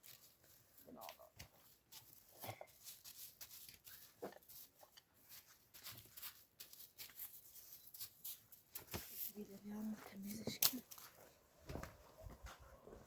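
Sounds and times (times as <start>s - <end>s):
faint handling clicks and rustles: 0.0s - 11.3s.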